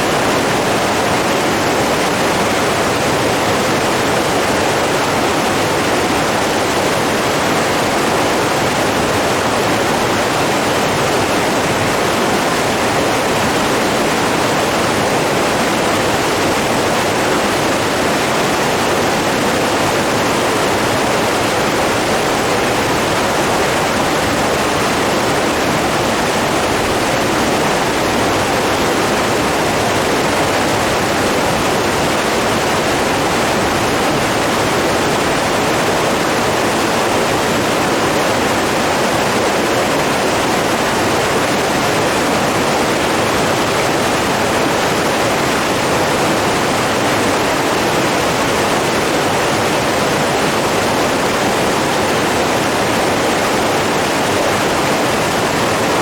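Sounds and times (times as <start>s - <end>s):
rushing flowing water: 0.0s - 56.0s.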